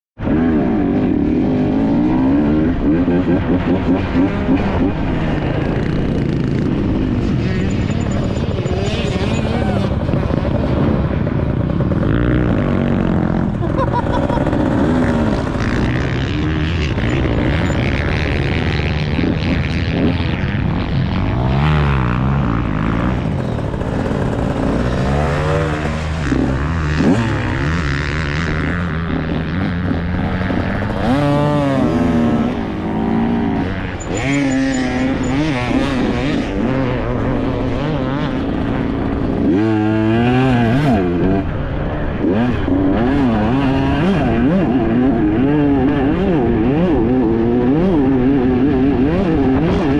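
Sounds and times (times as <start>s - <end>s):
dirt bike engine revving: 0.2s - 49.9s.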